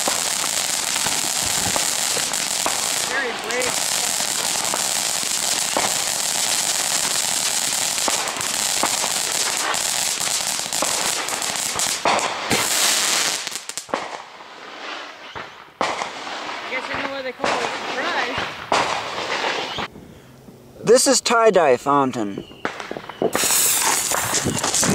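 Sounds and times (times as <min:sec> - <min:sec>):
firework fountain hissing and crackling: 0:00.0 - 0:19.9, 0:22.8 - 0:24.9.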